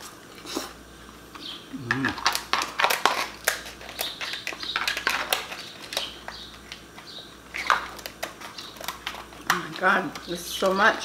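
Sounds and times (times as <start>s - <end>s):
shells cracking and crunching: 1.3s - 10.7s.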